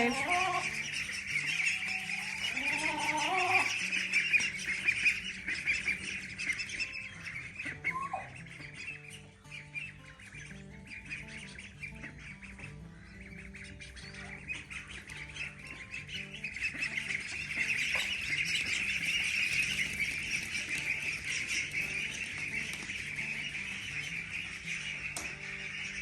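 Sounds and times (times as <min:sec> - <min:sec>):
poultry squawking and chirping: 0:00.0 - 0:26.0
soft background music: 0:00.0 - 0:26.0.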